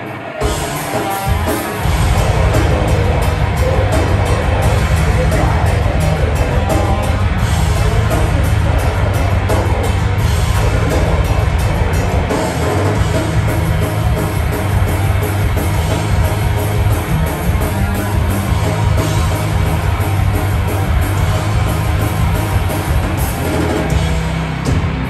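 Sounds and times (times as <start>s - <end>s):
metalcore band playing: 0.0s - 25.0s.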